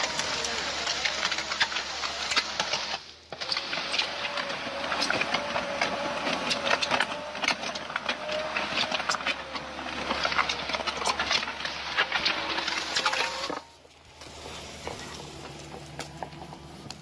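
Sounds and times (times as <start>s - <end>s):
construction machinery engine: 0.0s - 17.0s.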